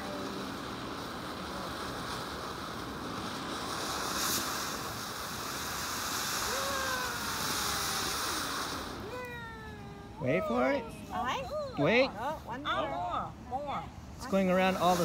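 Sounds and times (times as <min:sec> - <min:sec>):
firework crackle: 0:00.0 - 0:13.3, 0:14.2 - 0:15.0
firework fountain hissing: 0:00.0 - 0:15.0.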